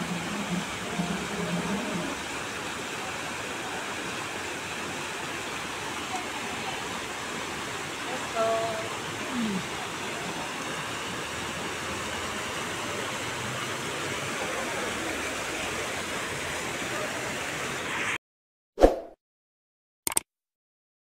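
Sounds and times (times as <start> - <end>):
fountain water splashing: 0.0 - 18.1.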